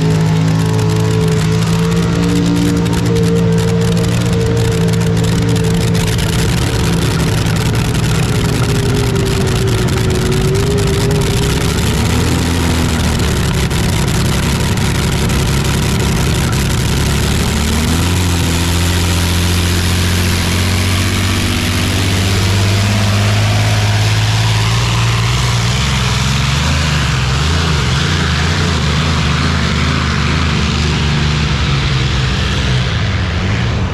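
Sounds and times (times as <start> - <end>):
tractor engine idling loudly: 0.0 - 33.9.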